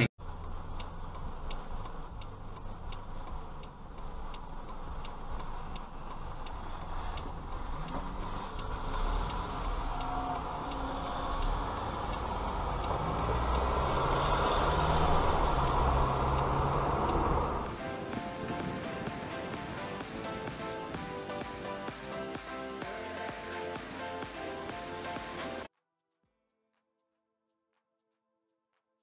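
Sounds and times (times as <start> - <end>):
car engine and road rumble: 0.0 - 25.7
faint regular ticking: 0.2 - 24.3.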